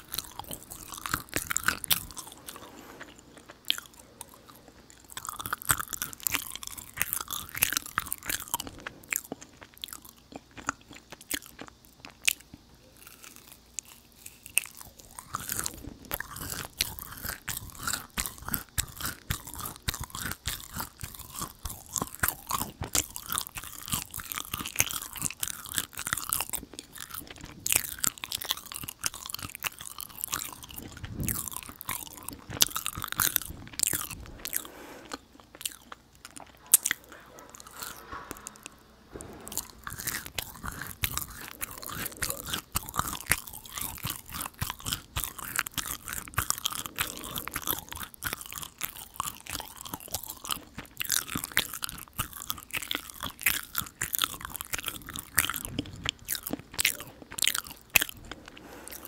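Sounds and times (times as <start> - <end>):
sticky chewing with mouth clicks: 0.0 - 59.0.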